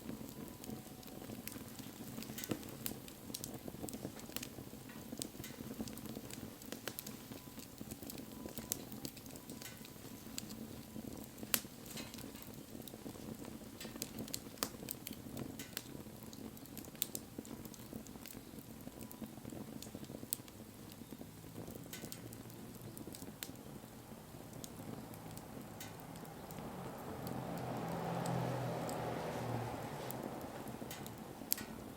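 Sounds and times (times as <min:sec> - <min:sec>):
flames rushing: 0:00.0 - 0:31.9
wood popping and crackling: 0:00.0 - 0:31.9.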